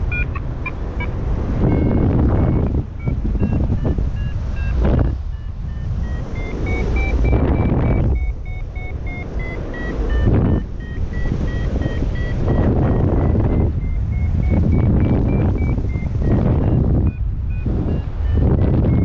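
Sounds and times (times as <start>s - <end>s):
variometer beeping: 0.0s - 19.0s
wind rushing over microphone: 0.0s - 19.0s.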